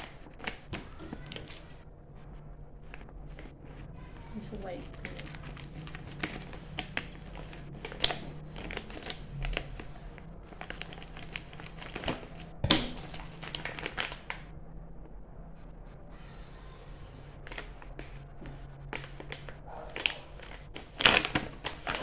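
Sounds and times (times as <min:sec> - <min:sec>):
packaging crinkling: 0:00.0 - 0:14.5, 0:17.3 - 0:22.0.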